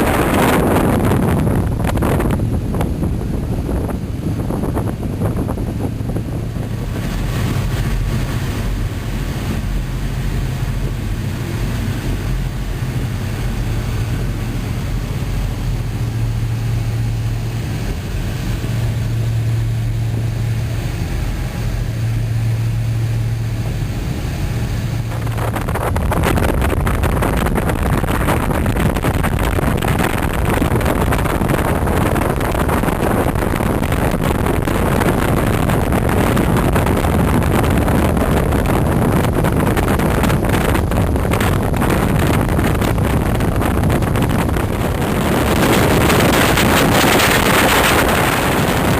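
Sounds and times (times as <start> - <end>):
boat engines humming: 0.0 - 48.9
rushing wind and water: 0.0 - 48.9.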